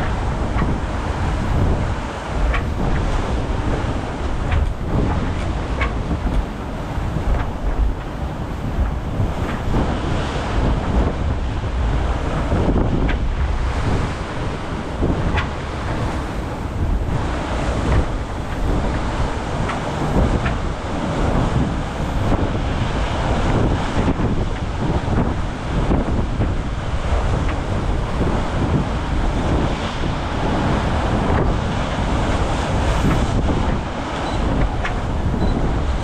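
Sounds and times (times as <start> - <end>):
rushing water and waves: 0.0 - 36.0
wind buffeting microphone: 0.0 - 36.0.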